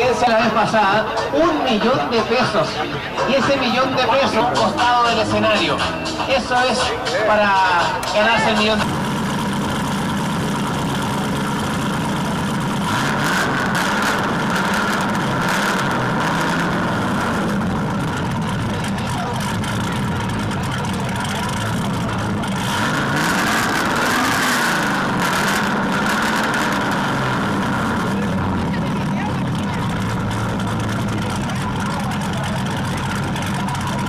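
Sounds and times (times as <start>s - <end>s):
background hubbub: 0.0s - 34.0s
car engine lightly revving: 0.0s - 34.0s.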